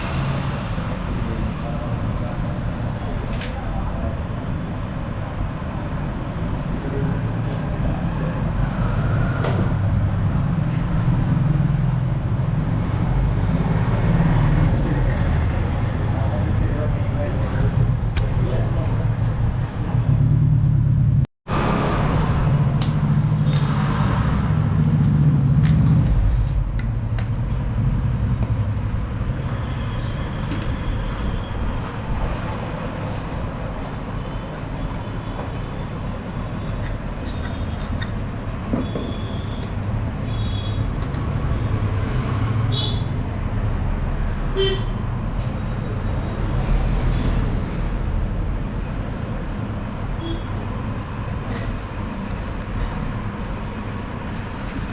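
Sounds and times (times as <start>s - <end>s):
road traffic rumbling: 0.0s - 54.9s.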